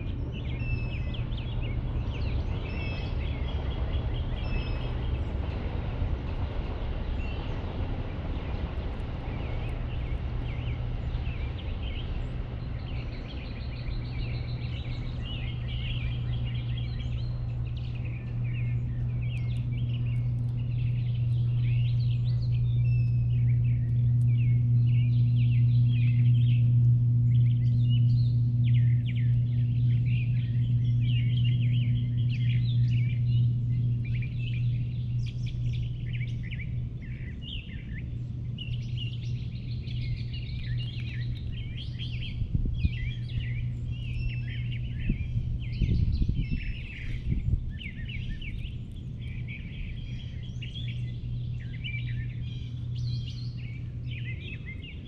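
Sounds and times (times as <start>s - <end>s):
songbirds chirping and singing: 0.0s - 55.0s
steady low hum: 0.0s - 55.0s.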